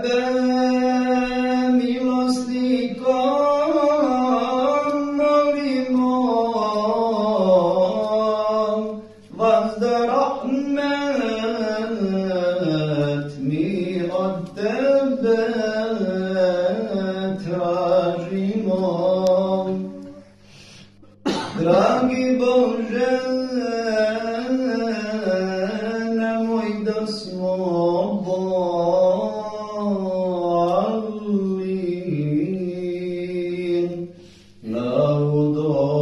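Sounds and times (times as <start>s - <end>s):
man chanting religious recitation: 0.0s - 20.2s, 21.5s - 36.0s.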